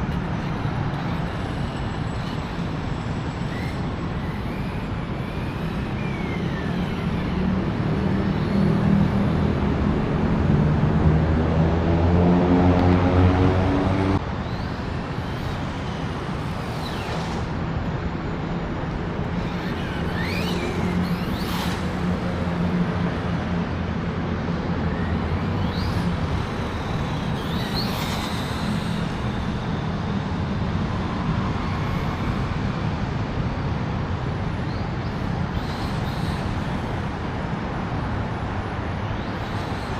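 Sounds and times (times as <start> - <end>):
traffic rumble: 0.0 - 39.9
whining pitch rises and falls: 0.0 - 39.9.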